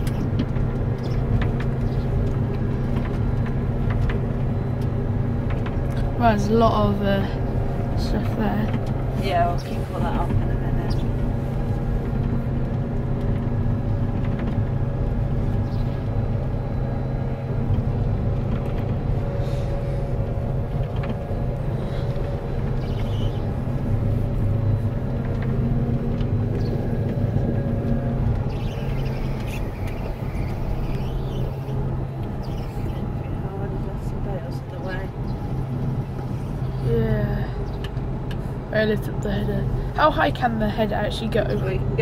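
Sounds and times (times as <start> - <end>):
combine harvester engine droning: 0.0 - 42.0.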